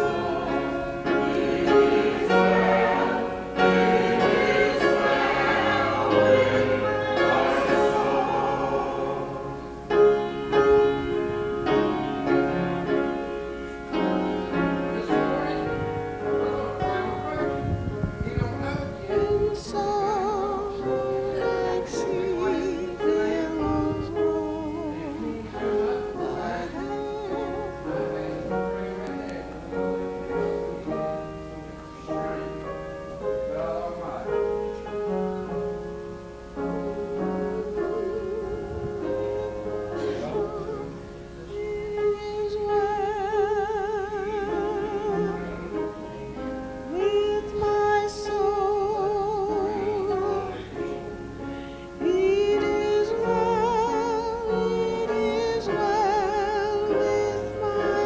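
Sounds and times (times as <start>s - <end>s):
instrumental accompaniment: 0.0s - 58.0s.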